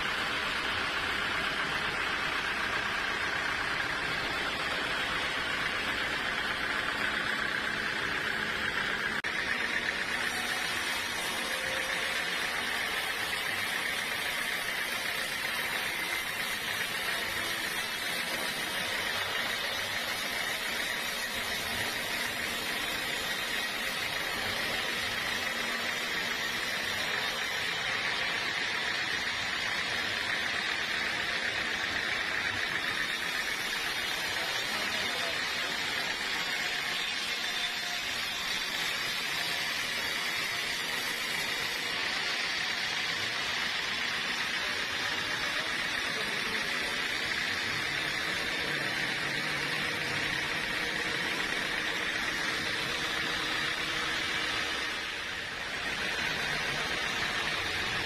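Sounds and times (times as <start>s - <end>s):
sawmill saw cutting wood: 0.0s - 58.0s.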